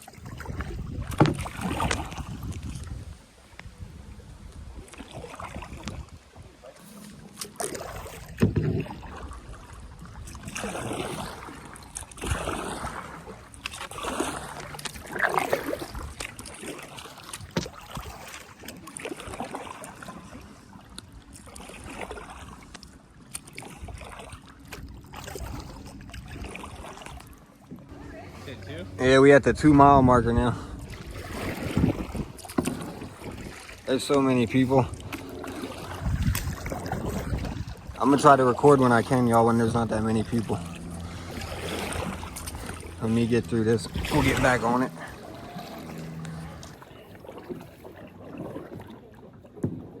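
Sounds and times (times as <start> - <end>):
paddle splashing in water: 0.0 - 50.0.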